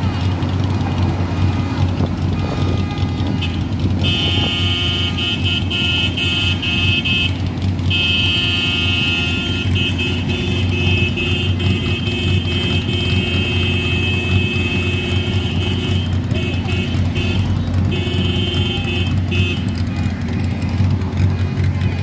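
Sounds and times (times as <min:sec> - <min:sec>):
car horns blowing: 0:00.0 - 0:22.0
low rumble of cars: 0:00.0 - 0:22.0.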